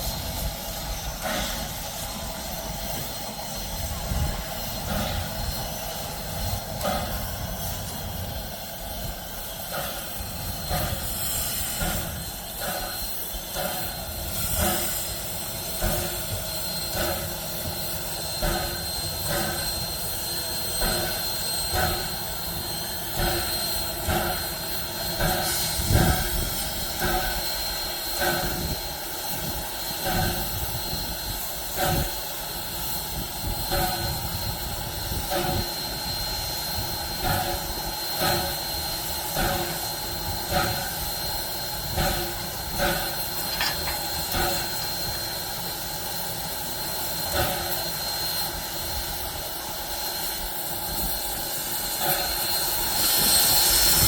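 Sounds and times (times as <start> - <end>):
steady hiss of steam: 0.0 - 54.0
steam locomotive exhaust chuffing: 0.0 - 54.0.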